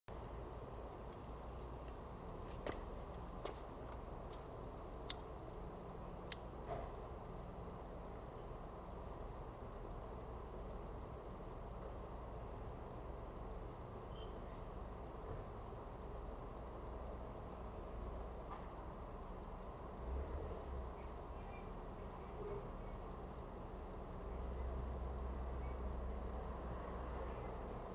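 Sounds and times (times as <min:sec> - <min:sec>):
crickets chirping: 0:00.1 - 0:27.9
low background hiss: 0:00.1 - 0:27.9.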